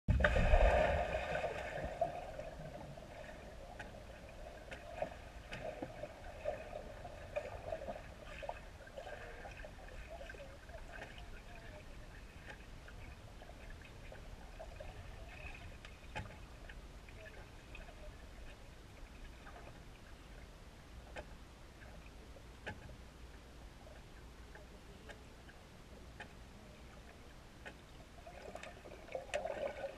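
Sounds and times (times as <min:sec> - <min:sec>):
muffled underwater sloshing: 0:00.1 - 0:29.9.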